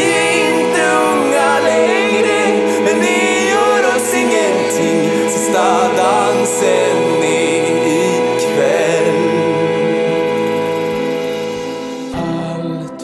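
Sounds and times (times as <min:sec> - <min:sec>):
song with sung vocals: 0:00.0 - 0:13.0.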